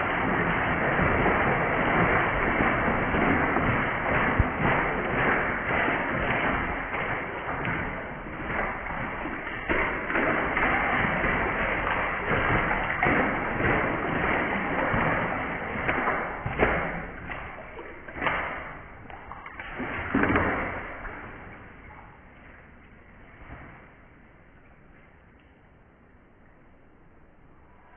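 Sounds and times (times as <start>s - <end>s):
bird splashing in water: 0.0s - 24.2s.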